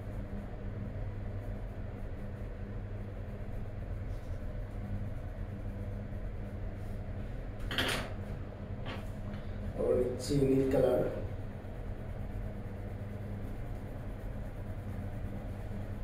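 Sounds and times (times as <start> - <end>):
pencil scratching on paper: 0.0 - 7.0, 9.8 - 16.0
low background hum: 0.0 - 16.0.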